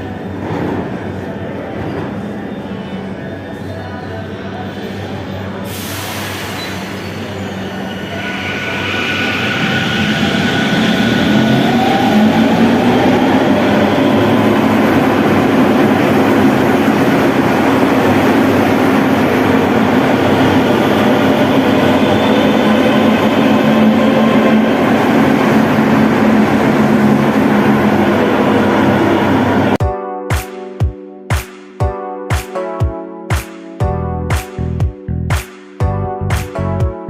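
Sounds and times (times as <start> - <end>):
metro train rumbling: 0.0 - 29.8.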